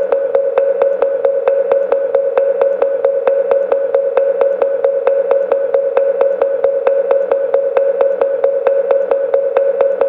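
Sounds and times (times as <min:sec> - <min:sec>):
steady ringing tone: 0:00.0 - 0:10.0
wooden fish struck in fast beat: 0:00.0 - 0:10.0.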